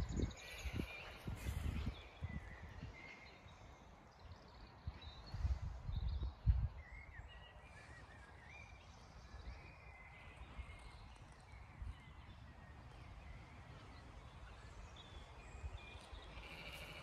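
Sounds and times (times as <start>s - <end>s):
small birds chirping and trilling: 0.0s - 17.0s
wind rumble on microphone: 0.0s - 17.0s.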